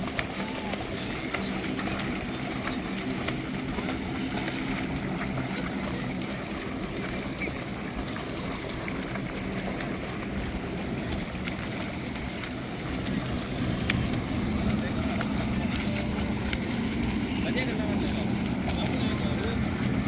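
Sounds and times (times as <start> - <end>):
water splashing and gurgling: 0.0 - 20.0.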